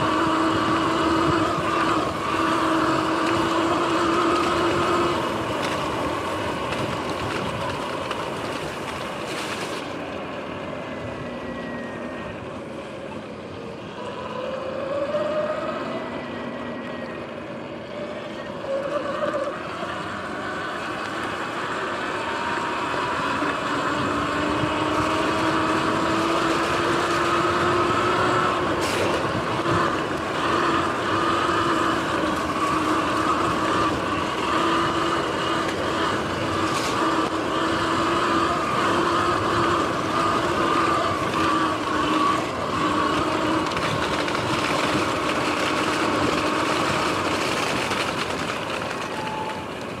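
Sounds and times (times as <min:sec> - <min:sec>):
electric dirt bike motor whining: 0:00.0 - 0:10.1, 0:10.8 - 0:50.0
wind and tyre noise: 0:00.0 - 0:50.0.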